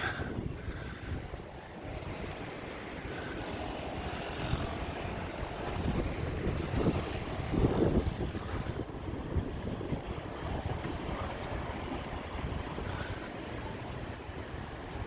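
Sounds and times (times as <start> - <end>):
steady high-pitched whine: 0.0 - 15.0
strong wind buffeting microphone: 0.0 - 15.0.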